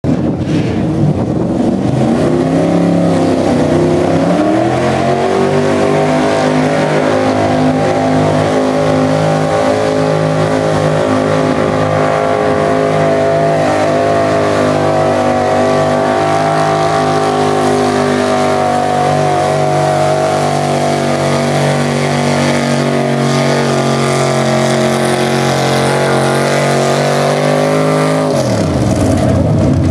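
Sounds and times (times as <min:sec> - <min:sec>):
vehicle engine at full throttle: 0:00.0 - 0:29.9.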